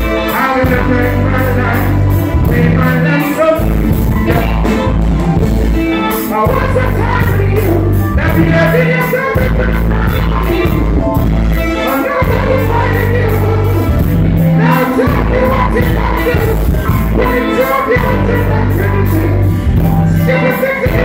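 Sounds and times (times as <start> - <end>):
man singing into microphone: 0.0 - 5.0, 6.0 - 21.0
live reggae band playing: 0.0 - 21.0.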